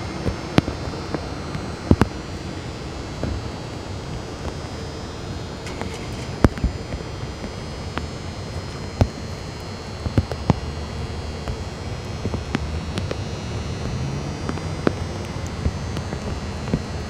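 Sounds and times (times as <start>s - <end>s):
low steady hum: 0.0s - 17.0s
steady rain: 0.0s - 17.0s.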